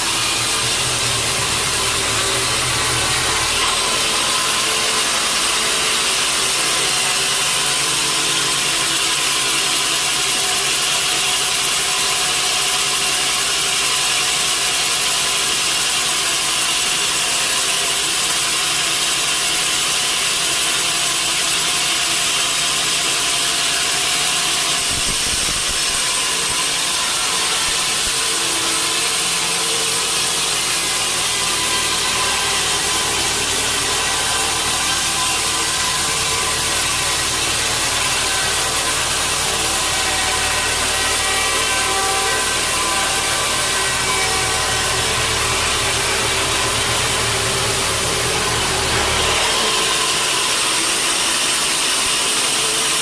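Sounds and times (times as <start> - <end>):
saw cutting through log: 0.0 - 53.0.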